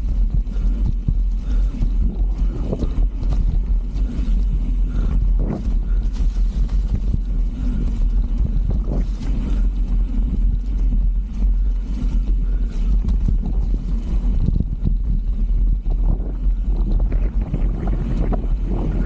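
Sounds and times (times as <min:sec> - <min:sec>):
mountain bike rattling downhill: 0:00.0 - 0:19.0
wind buffeting microphone: 0:00.0 - 0:19.0.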